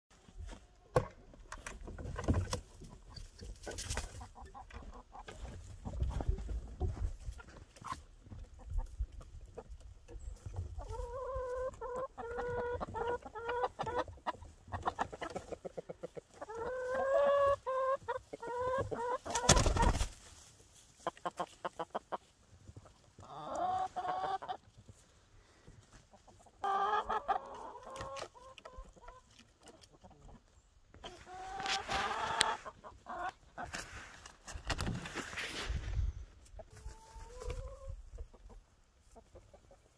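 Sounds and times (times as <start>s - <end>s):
hens clucking: 0.2s - 35.2s, 36.2s - 39.9s.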